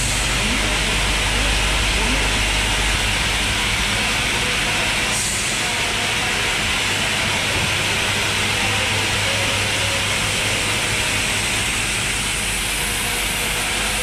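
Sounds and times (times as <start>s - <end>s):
factory machinery hiss: 0.0s - 14.0s
low electric motor hum: 0.0s - 14.0s.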